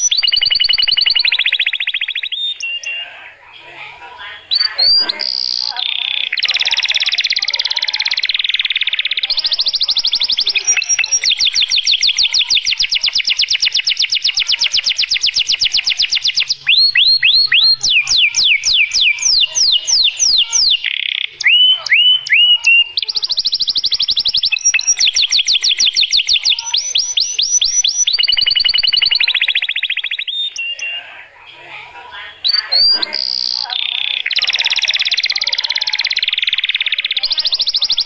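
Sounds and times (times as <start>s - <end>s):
canary trilling: 0.0s - 38.0s.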